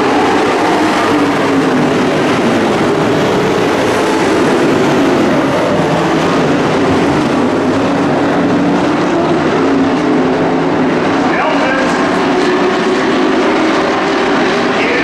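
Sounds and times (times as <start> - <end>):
race truck engines roaring: 0.0 - 15.0.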